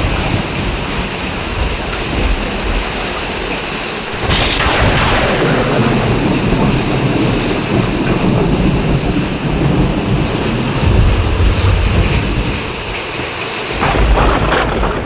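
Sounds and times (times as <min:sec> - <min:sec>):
heavy rain: 0:00.0 - 0:15.0
thunder crack and rumble: 0:00.0 - 0:15.0
wind: 0:00.0 - 0:15.0.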